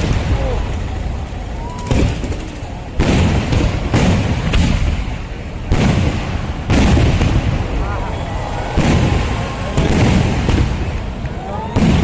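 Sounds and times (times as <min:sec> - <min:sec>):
fireworks explosions with echo: 0:00.0 - 0:12.0.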